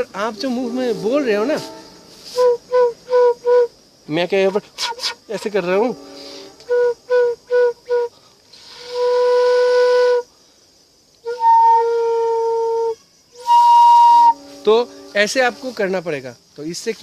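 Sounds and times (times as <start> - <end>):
bamboo flute playing: 0.0 - 3.8, 4.8 - 10.3, 11.2 - 15.9.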